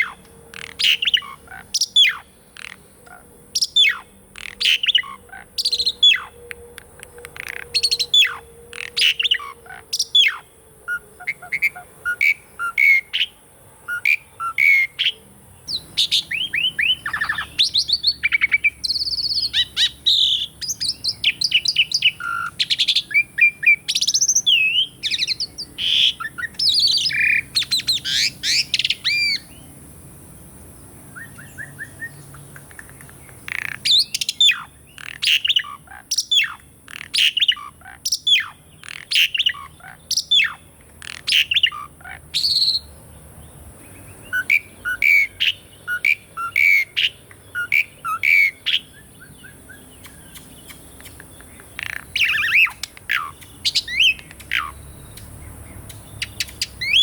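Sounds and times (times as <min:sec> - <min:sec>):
starling singing: 0:00.0 - 0:29.7, 0:31.1 - 0:43.0, 0:43.9 - 0:57.0.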